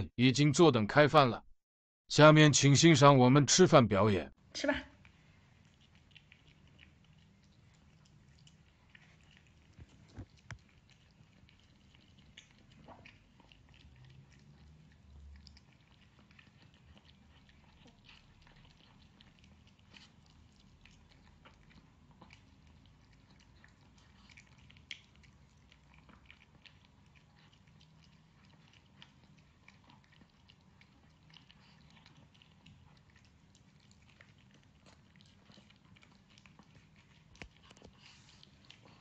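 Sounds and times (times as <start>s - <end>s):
dog chewing and crunching: 5.0s - 39.0s.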